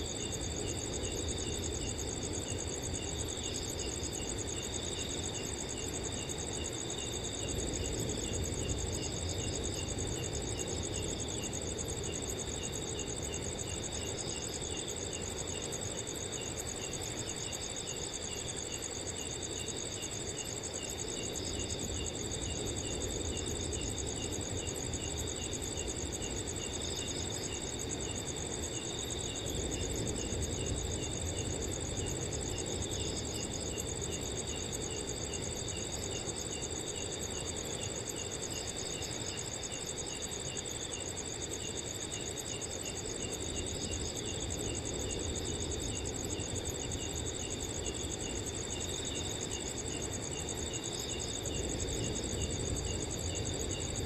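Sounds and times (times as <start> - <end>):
crickets chirping and trilling: 0.0 - 54.0.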